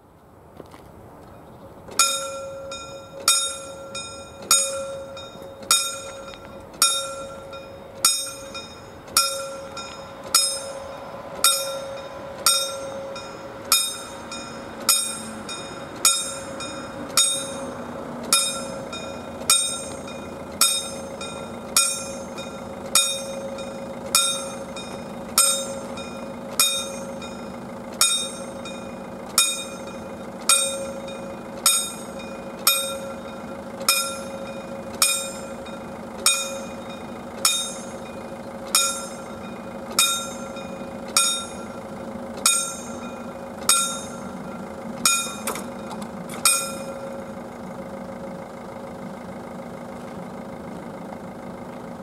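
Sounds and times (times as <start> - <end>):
level crossing warning bell: 1.4 - 52.0.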